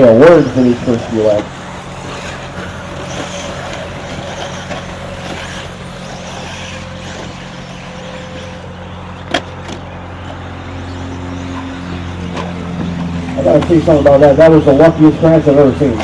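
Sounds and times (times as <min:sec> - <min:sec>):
electrical hum: 0:00.0 - 0:16.0
rc car motor whine and tyres: 0:00.0 - 0:16.0.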